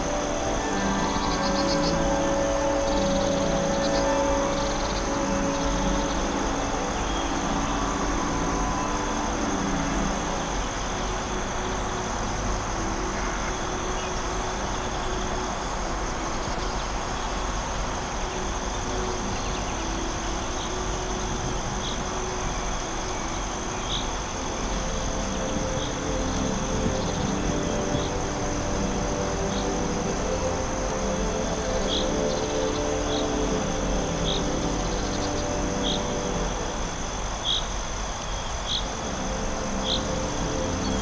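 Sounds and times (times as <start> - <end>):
ambient music pad: 0.0 - 41.0
insects droning: 0.0 - 41.0.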